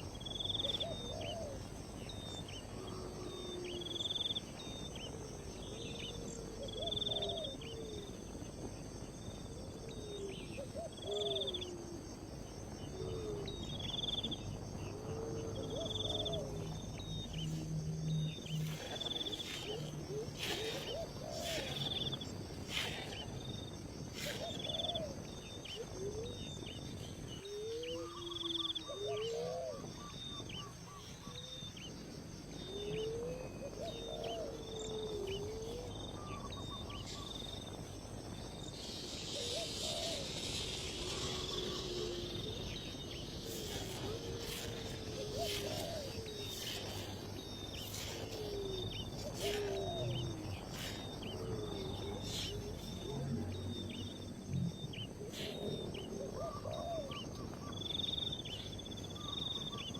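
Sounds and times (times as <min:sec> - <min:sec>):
insects buzzing: 0:00.0 - 0:59.9
birds calling: 0:09.7 - 0:59.9.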